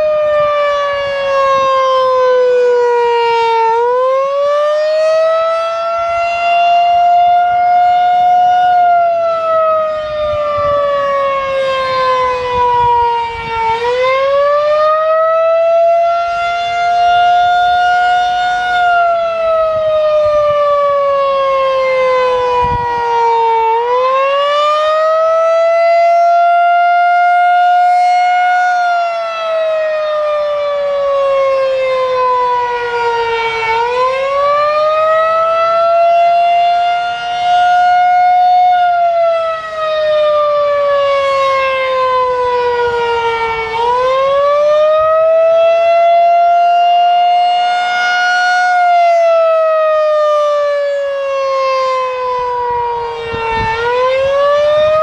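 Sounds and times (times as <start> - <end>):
wailing warning siren: 0.0 - 55.0.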